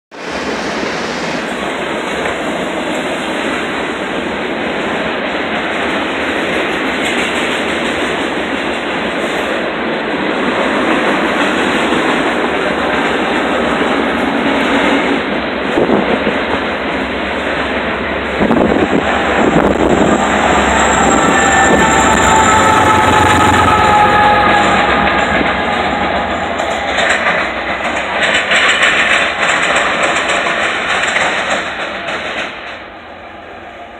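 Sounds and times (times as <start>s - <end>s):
steel train wheels on rails: 0.1s - 33.9s.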